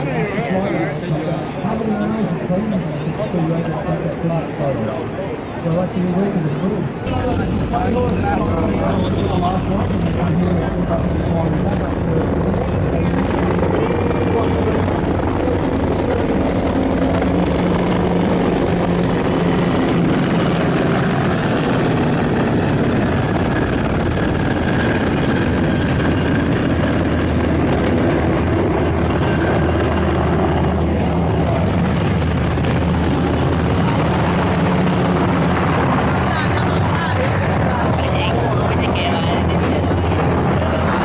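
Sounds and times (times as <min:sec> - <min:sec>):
helicopter flying overhead: 0:00.0 - 0:41.0.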